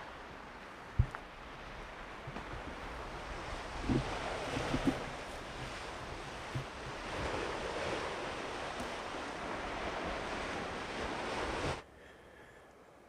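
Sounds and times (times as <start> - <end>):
surf breaking on rocky shore: 0.0 - 11.8
wind buffeting microphone: 0.0 - 11.8.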